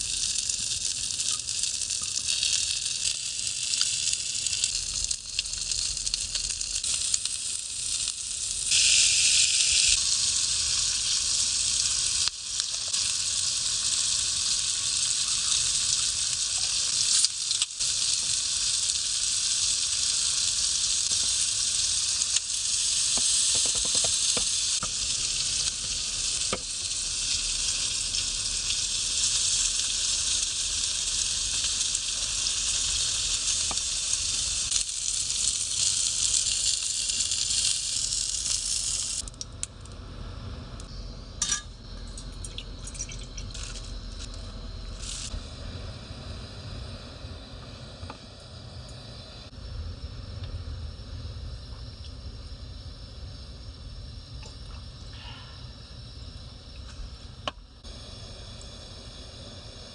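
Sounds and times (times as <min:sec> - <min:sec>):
food sizzling in a frying pan: 0:00.0 - 0:49.6, 0:52.7 - 0:59.9.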